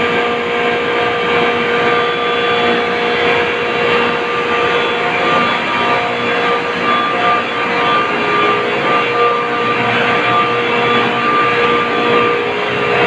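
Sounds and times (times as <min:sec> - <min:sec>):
compressors droning with whine: 0:00.0 - 0:13.0.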